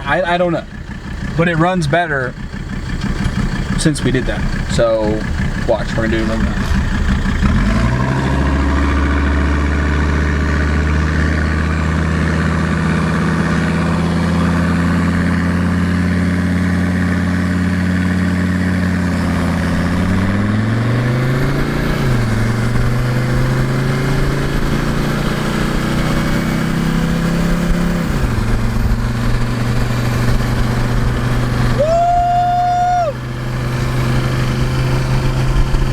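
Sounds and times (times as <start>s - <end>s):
diesel engine revving: 0.0s - 35.9s.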